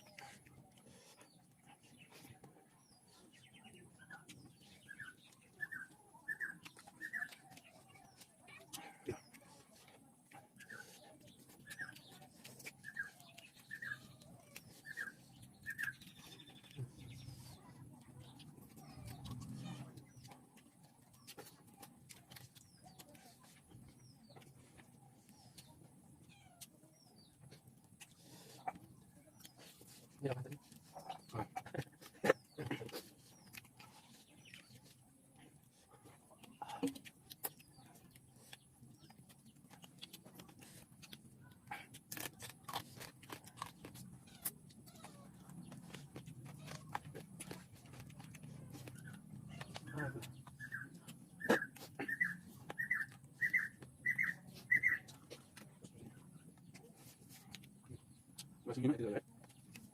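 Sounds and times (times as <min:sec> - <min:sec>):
bird chirping: 0:10.4 - 0:41.3, 0:42.9 - 0:59.9.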